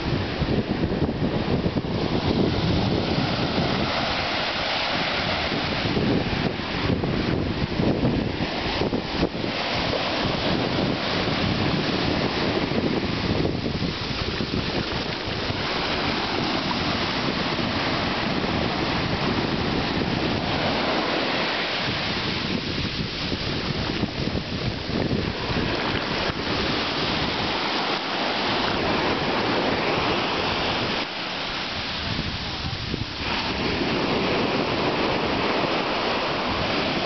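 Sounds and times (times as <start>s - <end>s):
surf breaking on sand: 0.0s - 37.0s
wind buffeting microphone: 0.0s - 37.0s.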